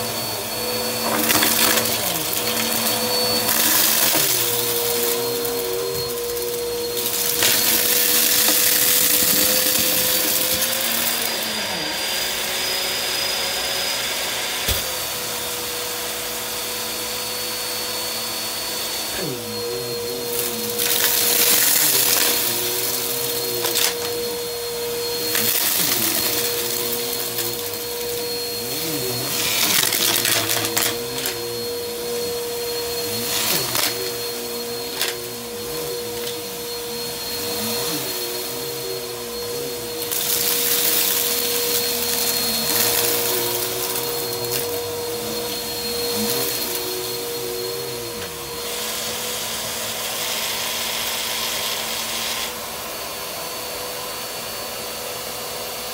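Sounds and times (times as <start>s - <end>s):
upright vacuum on carpet: 0.0s - 55.9s.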